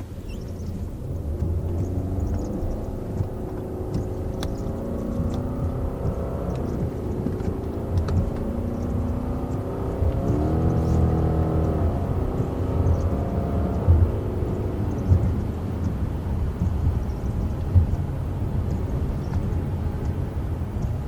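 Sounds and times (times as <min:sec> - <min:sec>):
car engine running: 0:00.0 - 0:21.0
faint clicks: 0:00.0 - 0:21.0.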